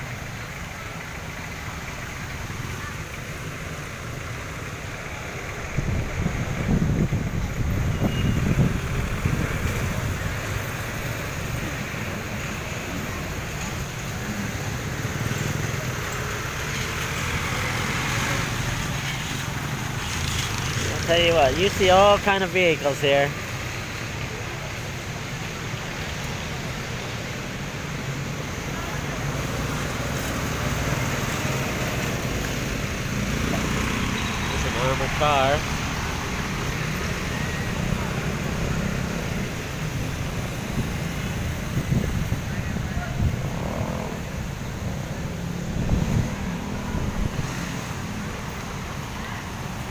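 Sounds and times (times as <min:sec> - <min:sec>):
road noise hiss: 0:00.0 - 0:49.9
vehicle engines passing: 0:00.0 - 0:49.9.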